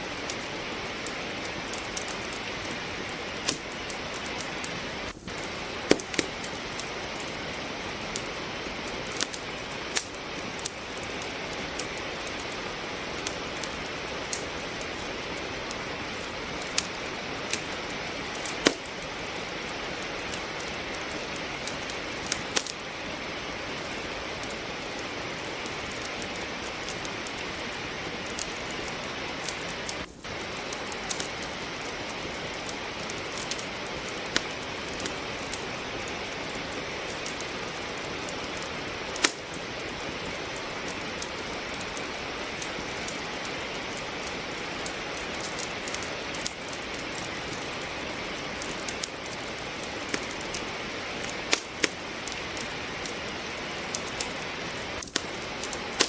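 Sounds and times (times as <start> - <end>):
rain hiss: 0.0 - 56.0
wood fire crackling: 0.0 - 56.0.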